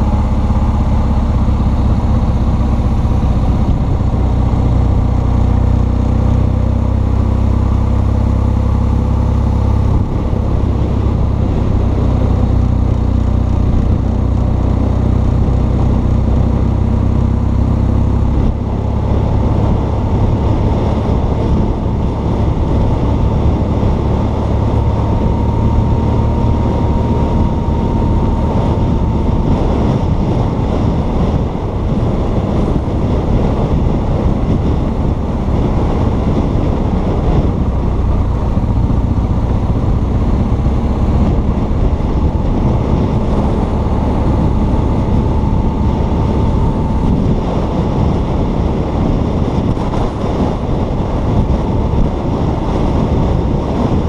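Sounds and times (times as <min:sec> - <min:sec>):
motorcycle engine running: 0:00.0 - 0:54.0
wind rush over microphone: 0:00.0 - 0:54.0.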